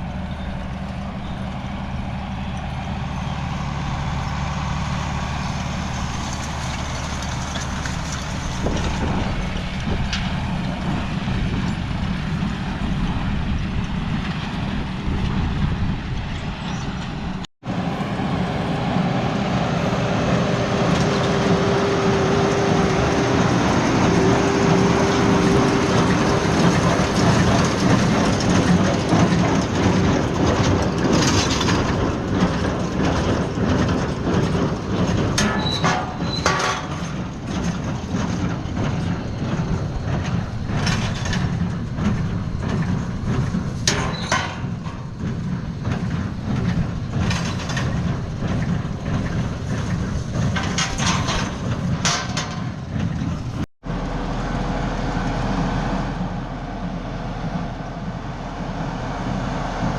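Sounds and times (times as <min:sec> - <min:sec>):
farm machinery engine running: 0:00.0 - 0:59.9
machinery rattling and clanking: 0:00.0 - 0:59.9.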